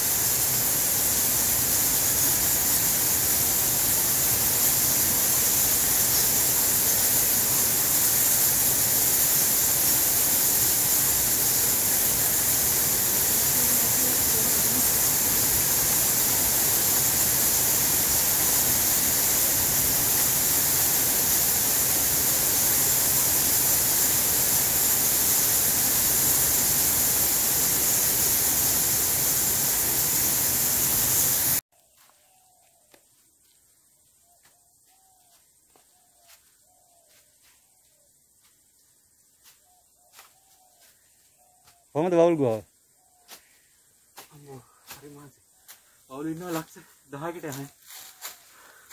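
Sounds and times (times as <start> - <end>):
loud steady hiss: 0.0 - 31.6, 41.3 - 48.9.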